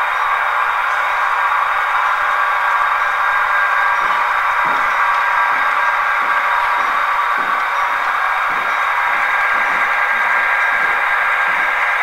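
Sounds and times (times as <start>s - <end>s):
model trains running: 0.0s - 12.0s.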